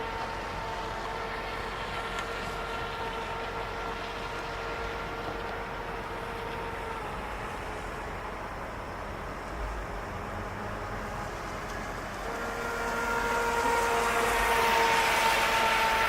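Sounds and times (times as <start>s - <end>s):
electric boat motor whining: 0.0s - 16.0s.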